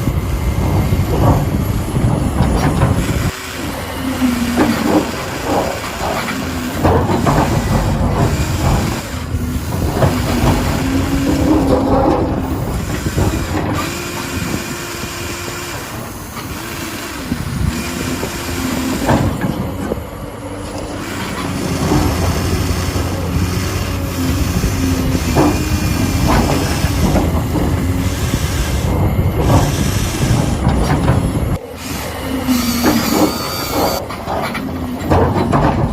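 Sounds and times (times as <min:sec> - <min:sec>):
clatter: 0:00.0 - 0:03.6, 0:04.5 - 0:16.7, 0:20.6 - 0:31.6, 0:32.7 - 0:35.9
toy excavator motors whining: 0:00.0 - 0:35.7.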